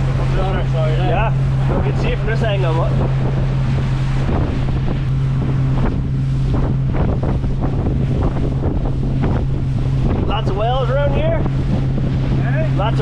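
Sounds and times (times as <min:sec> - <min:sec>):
hull slapping through waves: 0:00.0 - 0:13.0
outboard motor running: 0:00.0 - 0:13.0
wind buffeting microphone: 0:00.0 - 0:13.0.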